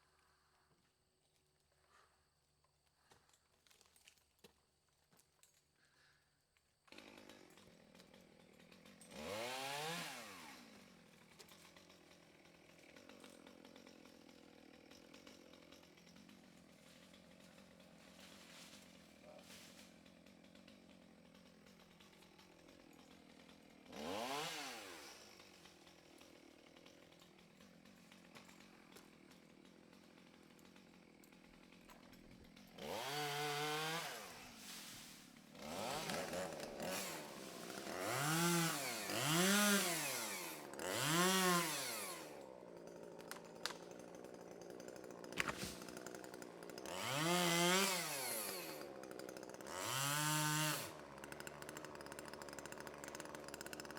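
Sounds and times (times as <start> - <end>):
chainsaw idling and revving: 6.8 - 53.9.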